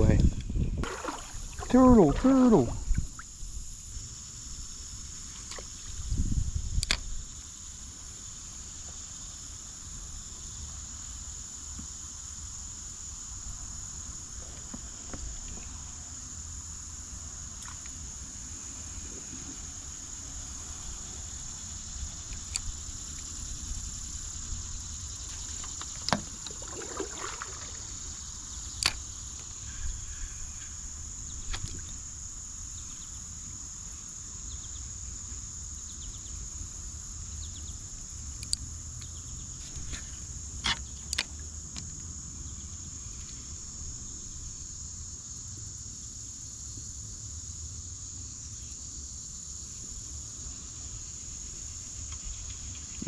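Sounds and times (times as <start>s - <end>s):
insect chorus: 0.0s - 53.0s.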